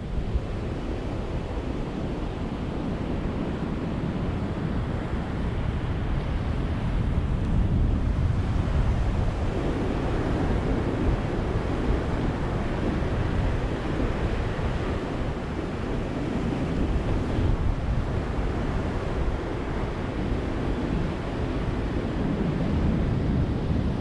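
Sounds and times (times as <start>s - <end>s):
ocean waves breaking on beach: 0.1s - 24.0s.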